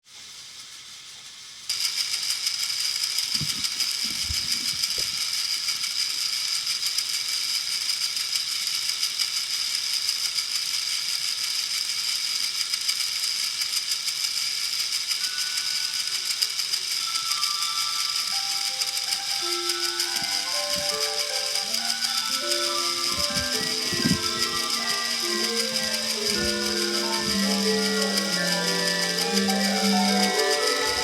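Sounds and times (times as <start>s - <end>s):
toy train motors rattling: 0.0s - 31.0s.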